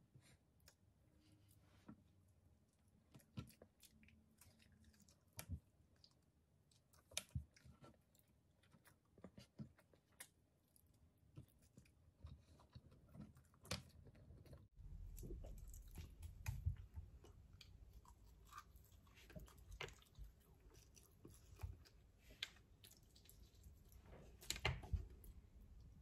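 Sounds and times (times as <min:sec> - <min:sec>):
chewing with lip smacks: 0:03.1 - 0:24.0.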